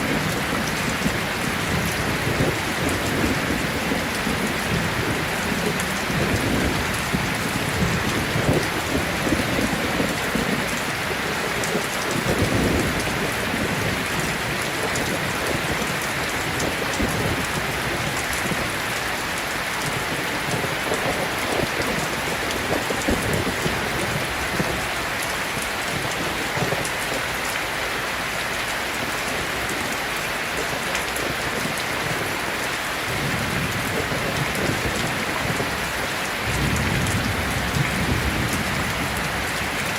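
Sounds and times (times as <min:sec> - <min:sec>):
distant thunder rumbling: 0:00.0 - 0:26.9, 0:30.6 - 0:39.9
heavy rain falling: 0:00.0 - 0:39.9.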